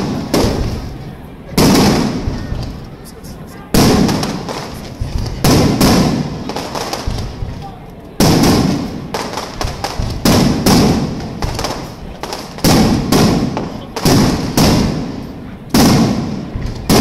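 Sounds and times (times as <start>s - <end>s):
firework bangs with rumble: 0.0s - 2.9s, 3.7s - 17.0s.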